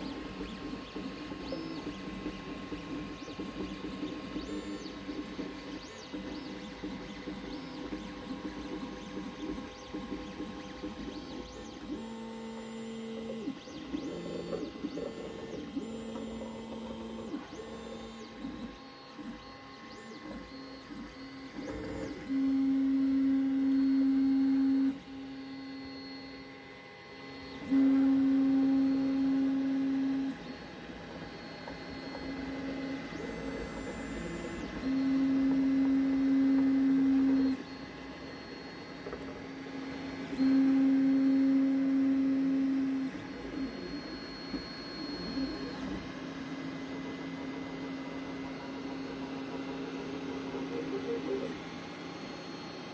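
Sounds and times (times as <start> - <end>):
stepper motors whining tones: 0.0 - 52.9.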